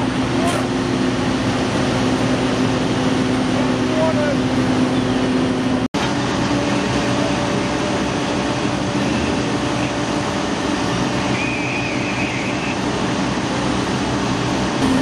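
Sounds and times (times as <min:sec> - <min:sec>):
fire engines pumping water: 0:00.0 - 0:15.0.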